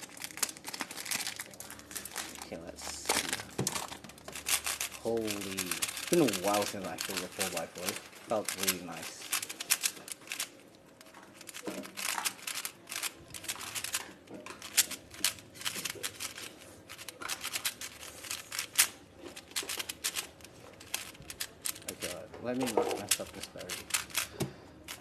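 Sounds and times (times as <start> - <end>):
puzzle cube plastic clicks: 0.0 - 25.0.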